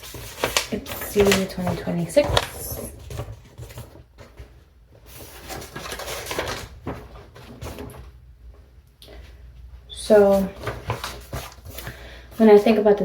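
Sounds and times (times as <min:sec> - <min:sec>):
paper packaging rustling: 0:00.0 - 0:08.1, 0:10.0 - 0:12.6.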